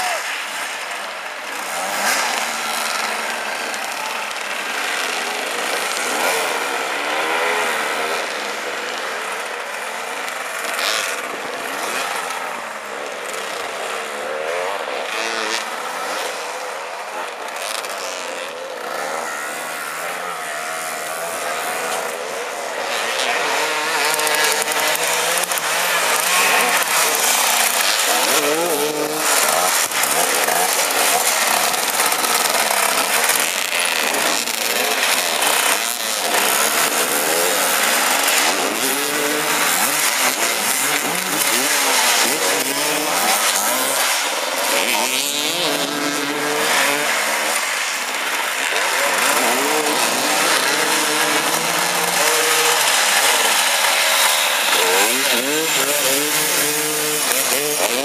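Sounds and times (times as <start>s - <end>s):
motorcycle engines revving and idling: 0.0s - 58.0s.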